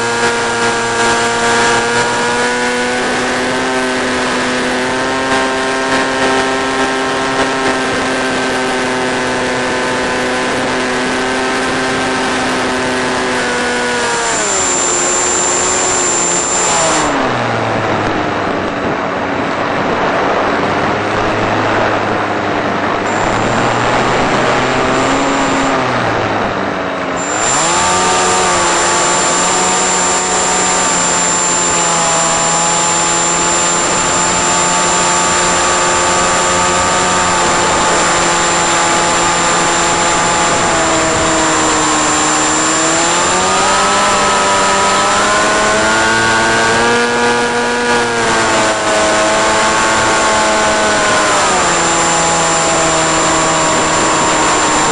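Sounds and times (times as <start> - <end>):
model plane motor whine: 0.0 - 18.8, 23.0 - 54.9.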